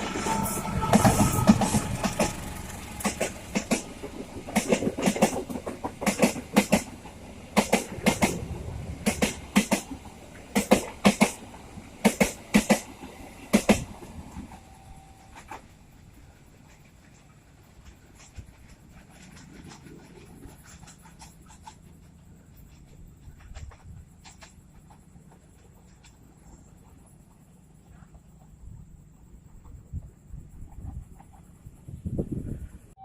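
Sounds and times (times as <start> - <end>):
train wheels clacking on rails: 0.0 - 27.4
train rumble: 0.0 - 33.0.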